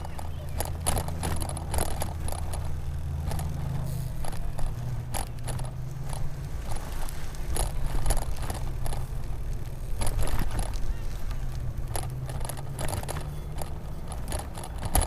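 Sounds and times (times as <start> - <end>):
bike rattling and clicking: 0.0 - 15.0
tyres rumbling on road: 0.0 - 15.0.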